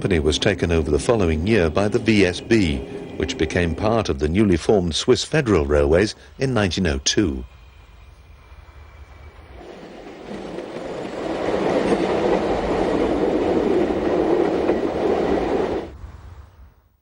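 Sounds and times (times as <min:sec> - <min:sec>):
train running on track: 0:00.0 - 0:16.7.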